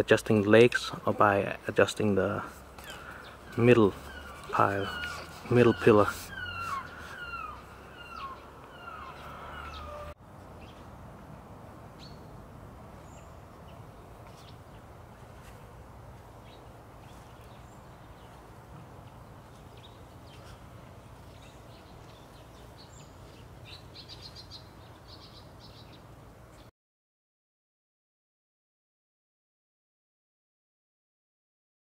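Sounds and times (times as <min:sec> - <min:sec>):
birds chirping: 0:00.0 - 0:10.9, 0:12.0 - 0:26.7
outdoor background hiss: 0:00.0 - 0:26.7.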